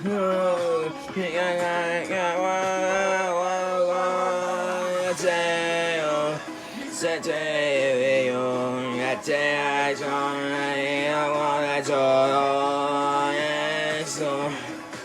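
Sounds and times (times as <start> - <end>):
man singing long notes: 0.0 - 15.0
music: 0.0 - 15.0.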